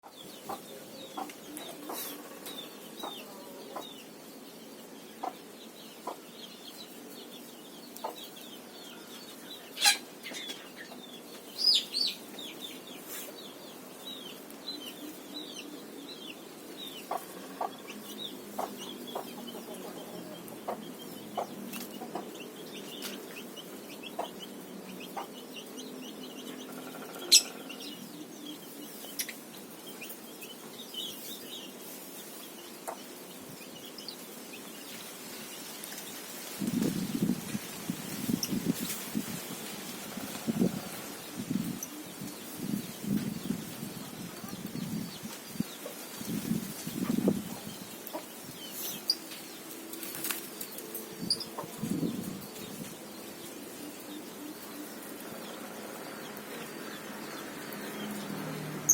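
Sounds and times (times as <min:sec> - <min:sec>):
chickens clucking: 0:00.0 - 0:58.9
small birds chirping: 0:00.0 - 0:58.9.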